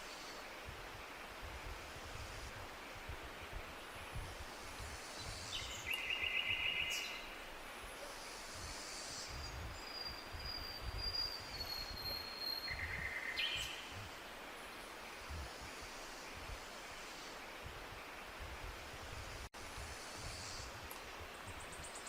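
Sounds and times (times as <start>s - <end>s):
forest songbirds singing: 0.0s - 22.0s
low rush of wind: 0.0s - 22.0s.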